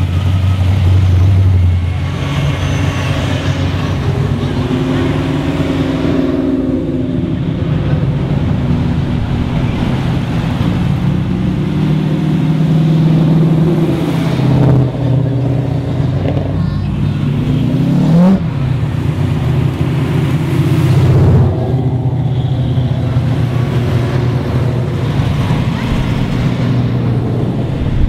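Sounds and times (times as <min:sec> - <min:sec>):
car engines cruising at low revs: 0:00.0 - 0:28.0
engine revving up: 0:00.0 - 0:28.0.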